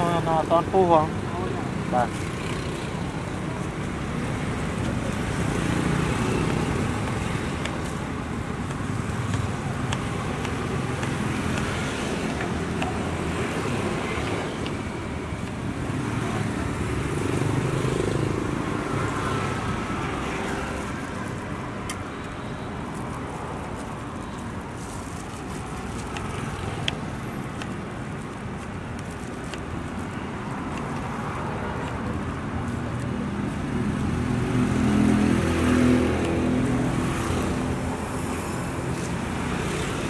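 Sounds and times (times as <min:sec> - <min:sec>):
street traffic: 0:00.0 - 0:40.0.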